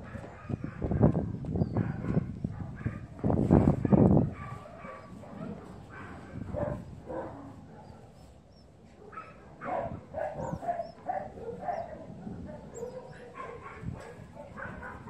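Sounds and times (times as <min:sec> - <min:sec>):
dog barking yipping and whining: 0:00.0 - 0:00.9, 0:01.6 - 0:08.2, 0:09.0 - 0:15.0.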